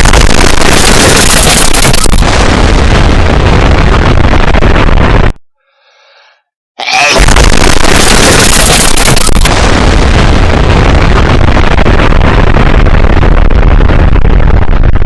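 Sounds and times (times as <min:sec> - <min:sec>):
loud distorted explosion: 0:00.0 - 0:05.4, 0:07.0 - 0:15.0.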